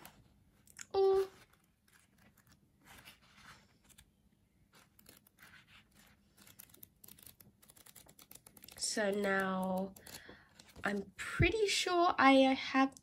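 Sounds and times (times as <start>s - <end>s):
pages being flipped: 0.0s - 11.0s.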